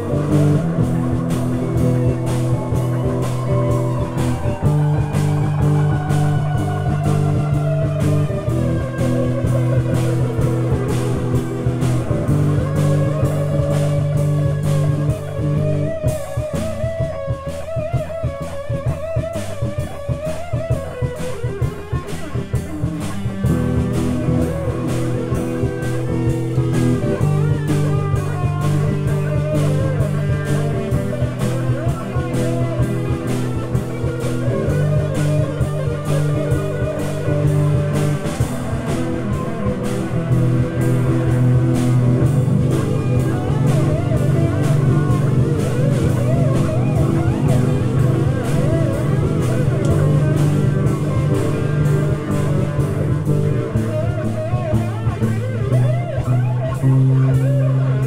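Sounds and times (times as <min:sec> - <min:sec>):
drum kit steady beat: 0:00.0 - 0:58.0
electric guitar lead line: 0:00.0 - 0:58.0
sustained low guitar chords: 0:00.0 - 0:58.0.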